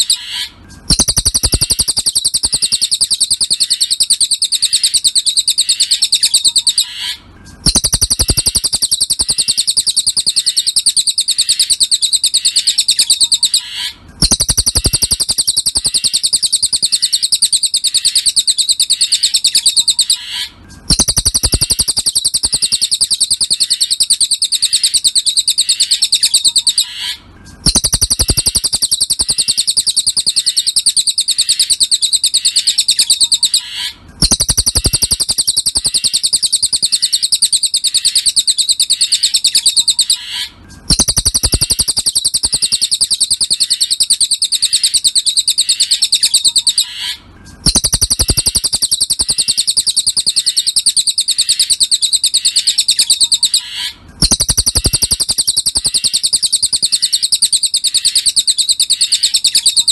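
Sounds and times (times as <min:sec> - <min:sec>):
songbird chirping trill: 0:00.0 - 0:59.9.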